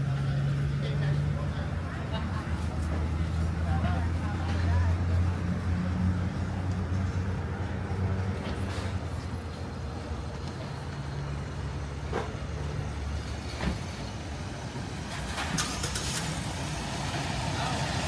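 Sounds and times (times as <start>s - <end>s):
large vehicle engine rumbling: 0.0s - 18.0s.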